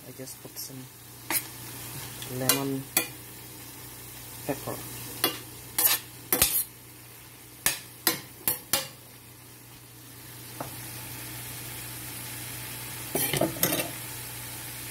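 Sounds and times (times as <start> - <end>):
vegetables sizzling in a pan: 0.0 - 14.9.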